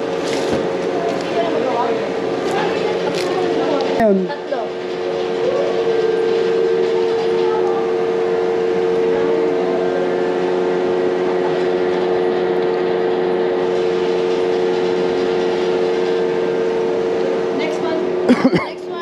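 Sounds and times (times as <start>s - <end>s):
scanner conveyor electric hum: 0.0s - 19.0s.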